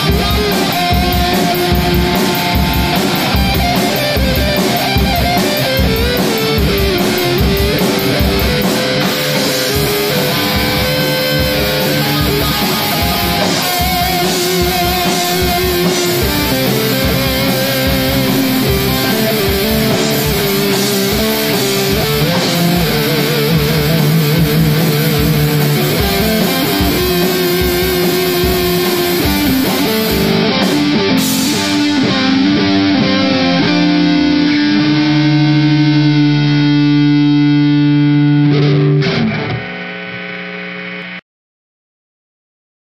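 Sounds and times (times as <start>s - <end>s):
steady drum beat: 0.0s - 34.7s
heavy rock song: 0.0s - 40.0s
held guitar chord ringing: 0.0s - 40.2s.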